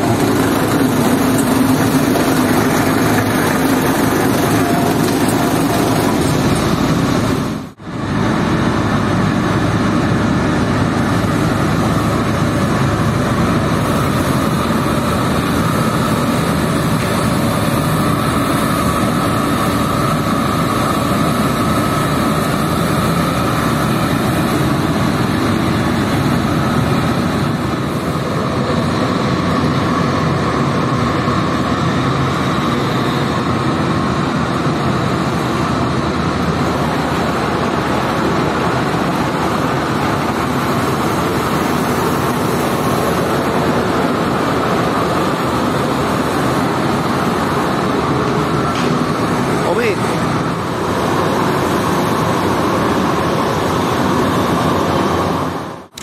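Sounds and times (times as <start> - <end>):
loud motor noise: 0.0 - 56.0.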